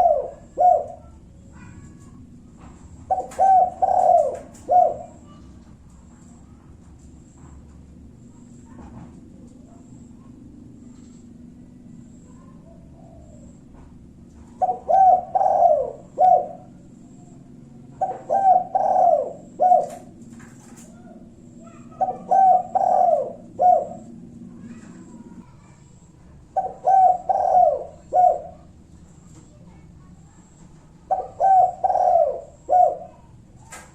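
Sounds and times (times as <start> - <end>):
dove cooing: 0.0 - 6.6, 8.0 - 33.9.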